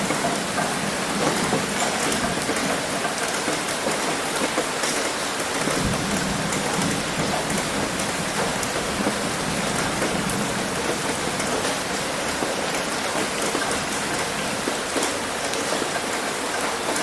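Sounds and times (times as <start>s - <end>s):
heavy rain on a roof: 0.0s - 17.0s.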